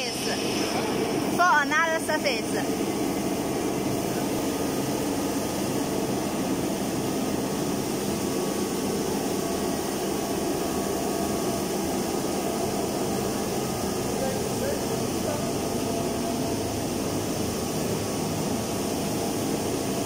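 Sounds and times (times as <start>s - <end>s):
wet sanding machine running: 0.0s - 20.0s.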